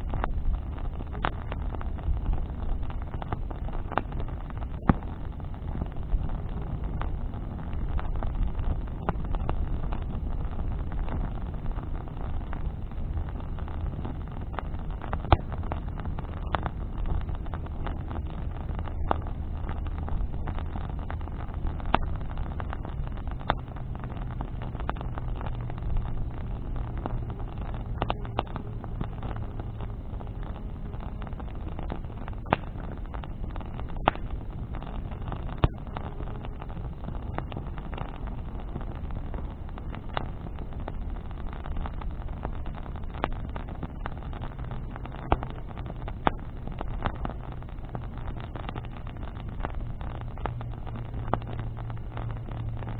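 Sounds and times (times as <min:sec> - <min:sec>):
bonfire crackling and popping: 0:00.0 - 0:52.9
low rumble: 0:00.0 - 0:52.9.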